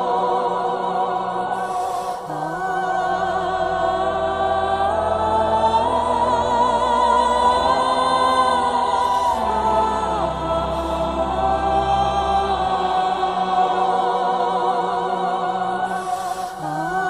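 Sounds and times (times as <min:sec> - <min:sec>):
choir-like voices: 0:00.0 - 0:17.0
low drone: 0:00.0 - 0:17.0.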